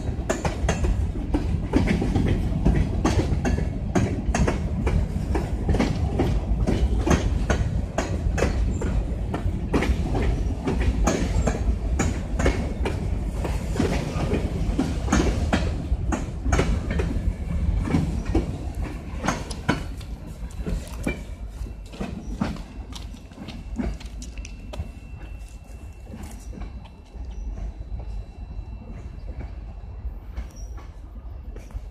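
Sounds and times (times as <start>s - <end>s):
wheels clicking over rail joints: 0.0s - 27.6s
freight train wheels rumbling: 0.0s - 31.9s.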